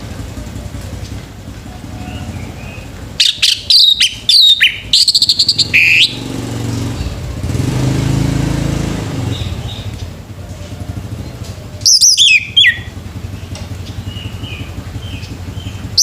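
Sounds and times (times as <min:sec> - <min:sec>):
thrush singing: 0:00.0 - 0:16.0.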